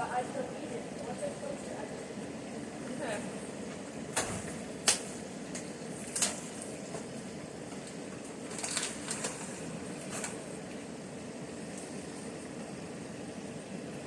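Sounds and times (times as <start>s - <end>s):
steady fan-like hum: 0.0s - 14.0s.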